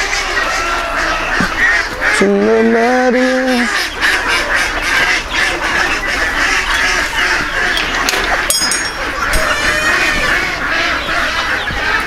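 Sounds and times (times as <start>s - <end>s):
long loud bird call: 0.0s - 12.0s
poultry flock calling: 0.0s - 12.0s.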